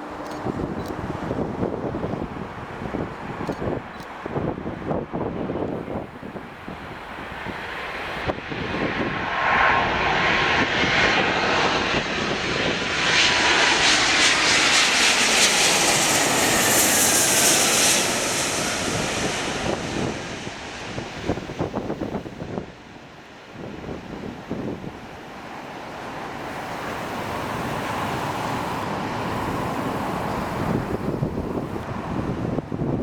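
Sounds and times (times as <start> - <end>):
jet airliner engines passing: 0.0 - 33.0.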